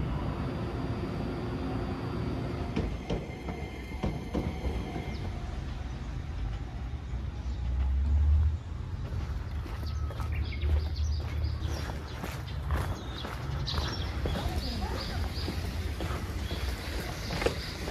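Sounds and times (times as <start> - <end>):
train rumbling: 0.0 - 17.9.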